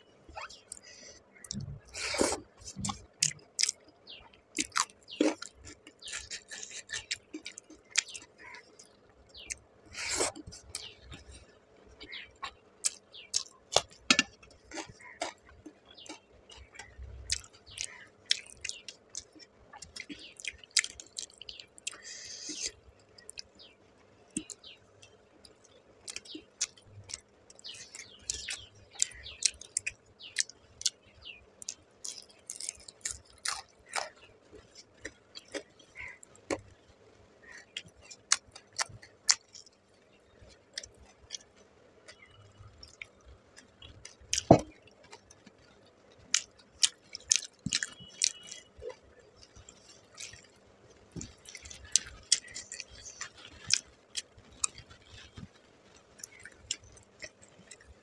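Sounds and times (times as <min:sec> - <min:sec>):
person chewing: 0:00.3 - 0:23.6, 0:24.3 - 0:36.8, 0:37.4 - 0:58.0.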